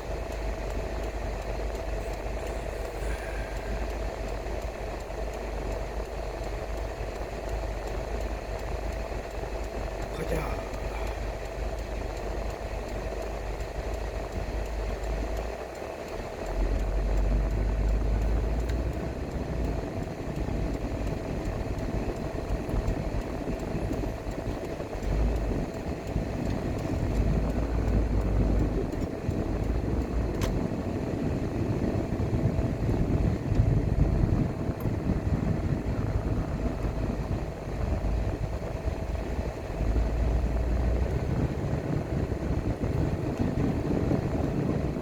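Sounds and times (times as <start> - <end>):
car engine and tyre noise: 0.0 - 45.0
faint steady hum: 0.0 - 45.0
low rumble: 0.0 - 45.0.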